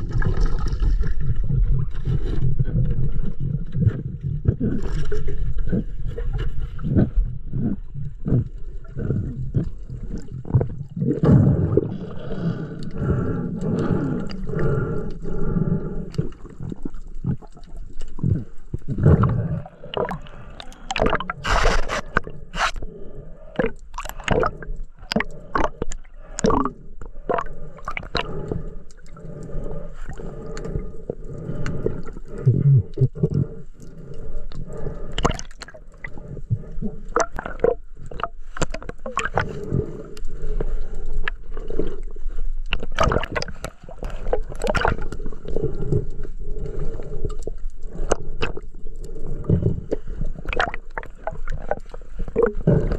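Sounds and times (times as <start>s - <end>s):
underwater gurgling and sloshing: 0.0s - 52.9s.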